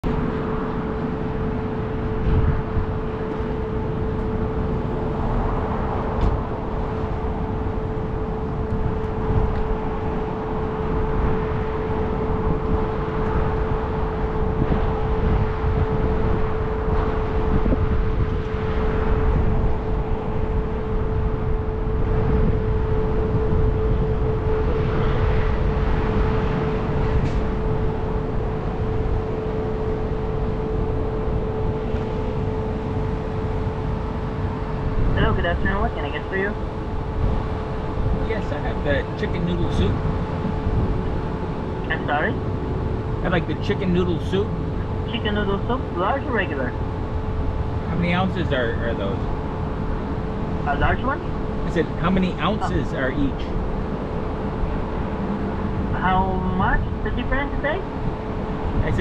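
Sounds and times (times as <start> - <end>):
car engine and tyre rumble: 0.0 - 59.0
steady hum: 0.0 - 59.0.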